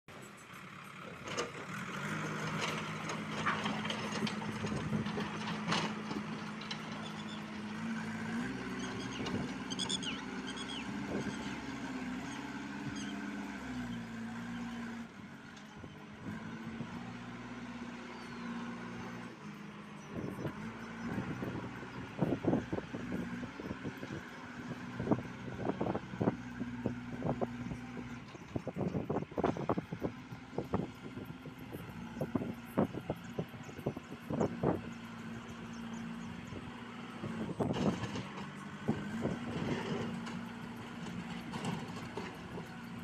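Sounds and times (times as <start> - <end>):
diesel engine under load: 0.1 - 43.0.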